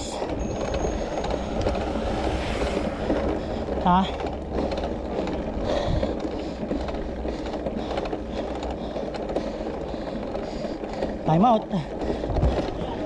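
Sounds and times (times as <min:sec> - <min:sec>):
bicycle tyres and drivetrain rumble: 0:00.0 - 0:13.0.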